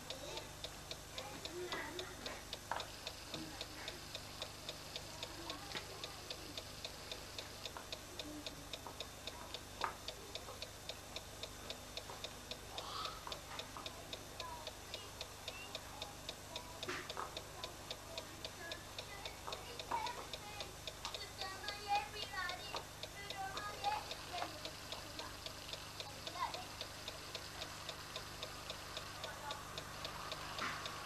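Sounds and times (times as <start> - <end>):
rapid mechanical ticking: 0.0 - 31.0.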